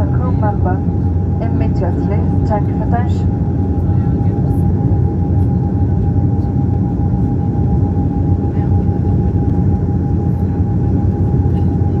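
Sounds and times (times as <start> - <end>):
jet cabin engine rumble: 0.0 - 12.0.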